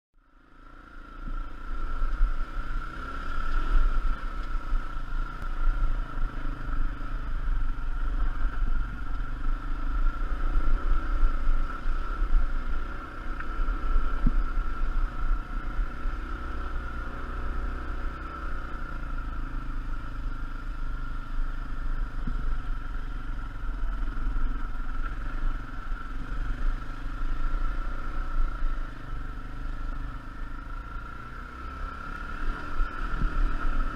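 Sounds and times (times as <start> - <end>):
dirt bike engine running: 0.2 - 33.9.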